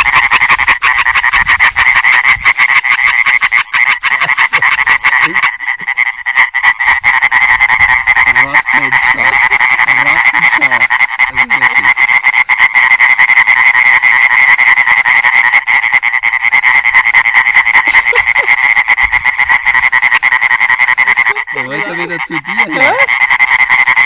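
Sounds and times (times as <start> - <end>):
tree frog calling: 0.0 - 24.0.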